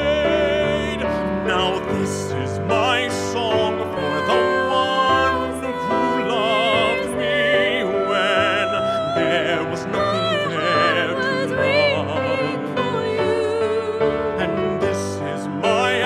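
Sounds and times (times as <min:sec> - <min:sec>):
man singing with vibrato: 0:00.0 - 0:16.0.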